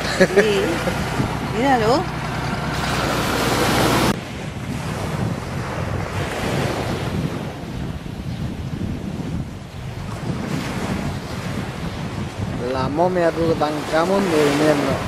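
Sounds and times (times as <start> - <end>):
surf on a beach: 0.0 - 15.0
wind buffeting microphone: 0.0 - 15.0.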